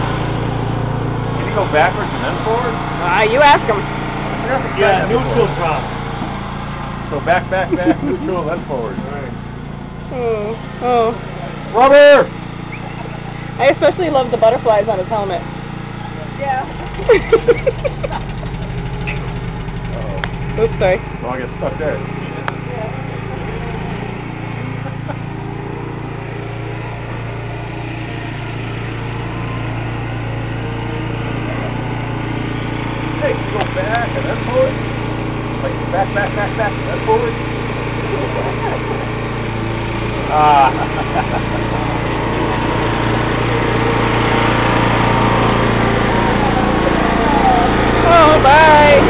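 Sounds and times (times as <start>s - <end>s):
riding lawn mower engine: 0.0s - 49.0s.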